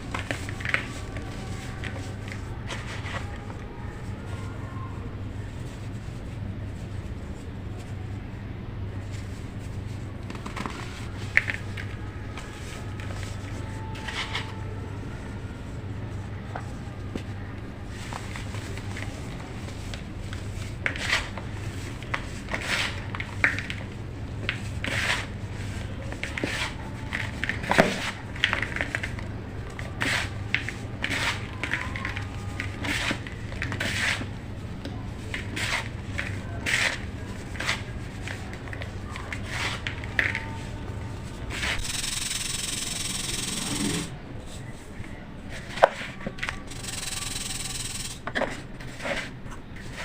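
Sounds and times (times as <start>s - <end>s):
steady low hum: 0.0s - 45.7s.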